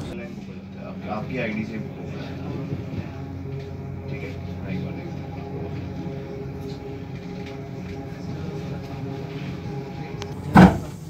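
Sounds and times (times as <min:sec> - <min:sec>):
constant hum: 0:00.0 - 0:11.0
electric train rumbling: 0:00.0 - 0:11.0.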